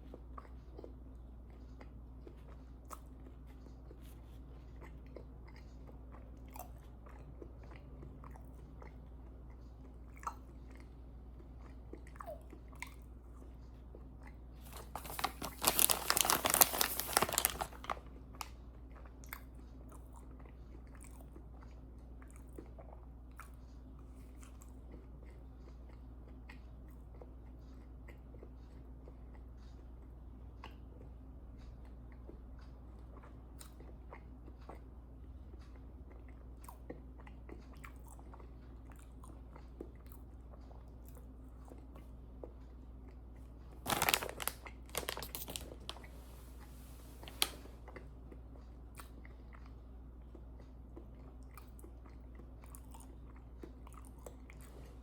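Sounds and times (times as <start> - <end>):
person chewing: 0.0 - 46.6, 47.2 - 55.0.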